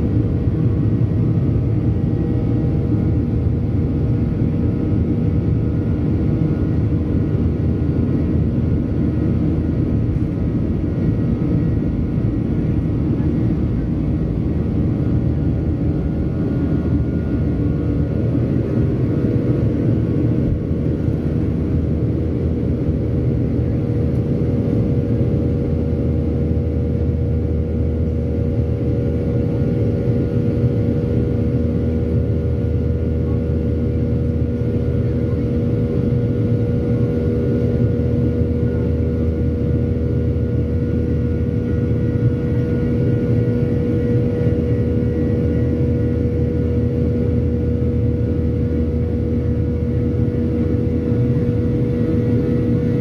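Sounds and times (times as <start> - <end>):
jet engine rumble inside cabin: 0.0 - 53.0
steady hum: 0.0 - 53.0.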